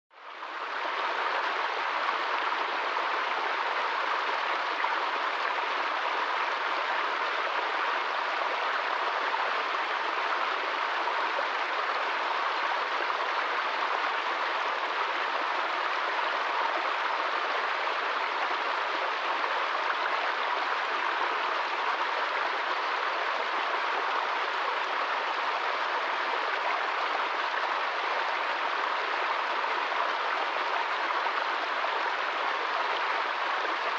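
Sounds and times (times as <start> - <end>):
stream running over rocks: 0.2 - 33.9.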